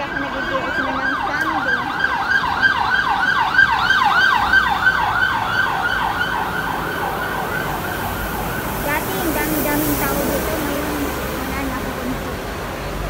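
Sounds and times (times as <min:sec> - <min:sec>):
siren yelping: 0:00.0 - 0:12.0
street traffic: 0:00.0 - 0:13.0.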